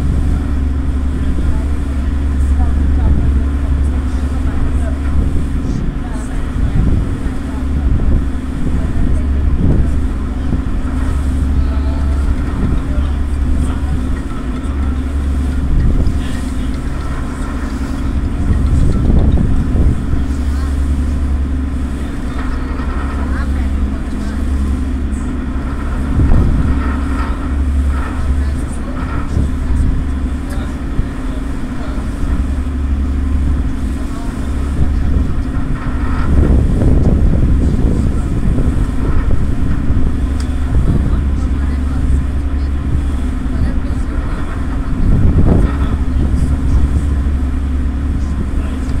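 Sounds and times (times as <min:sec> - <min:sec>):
ferry engine droning: 0:00.0 - 0:49.0
heavy low rumble: 0:00.0 - 0:49.0
water noise: 0:00.0 - 0:49.0
wind: 0:00.0 - 0:49.0.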